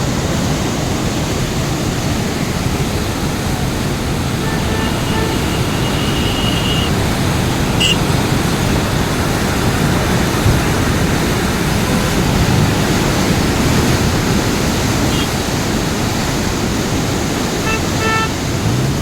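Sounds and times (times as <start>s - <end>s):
fast-flowing floodwater rushing: 0.0s - 19.0s.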